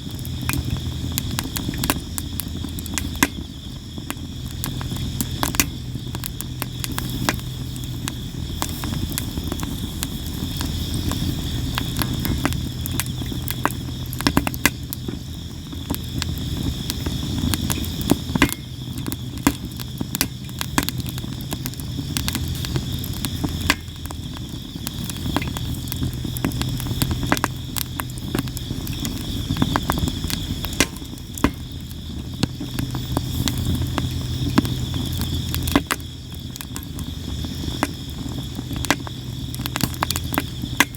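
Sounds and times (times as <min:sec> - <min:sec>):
campfire crackling and popping: 0:00.0 - 0:40.9
insects chirping: 0:00.0 - 0:40.9
low rush of flames: 0:00.0 - 0:40.9.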